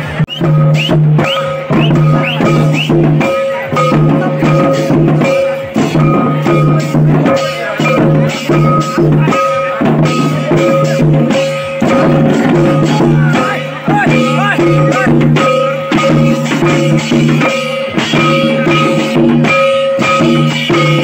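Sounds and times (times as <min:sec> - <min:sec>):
drum-led dance music: 0:00.0 - 0:21.0.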